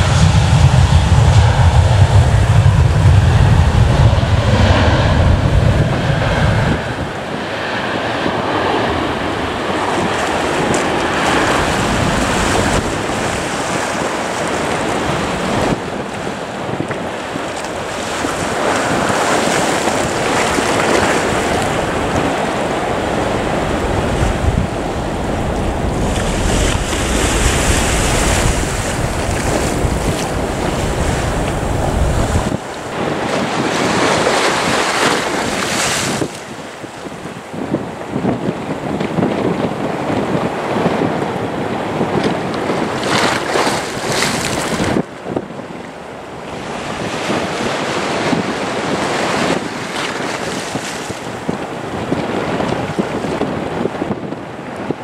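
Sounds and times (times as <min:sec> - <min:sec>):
aircraft engines rumbling: 0:00.0 - 0:55.0
surf: 0:00.0 - 0:55.0
wind on microphone: 0:00.0 - 0:55.0.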